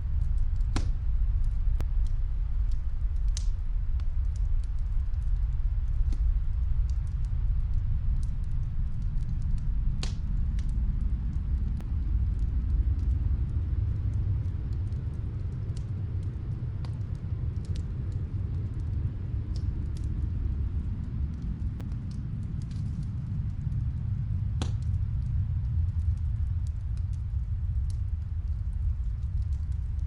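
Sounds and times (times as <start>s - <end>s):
fireplace crackles: 0.0s - 30.0s
snowstorm wind rumble: 0.0s - 30.0s.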